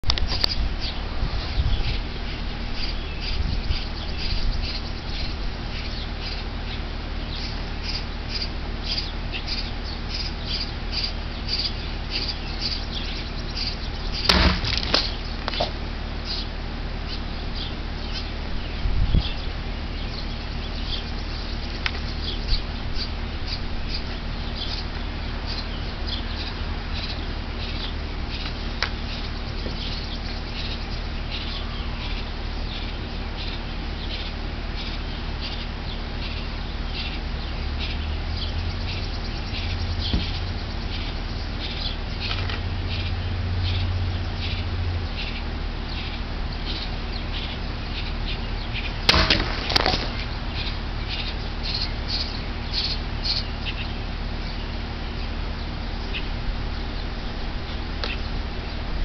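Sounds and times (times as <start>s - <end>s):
low steady rumble: 0.0s - 59.0s.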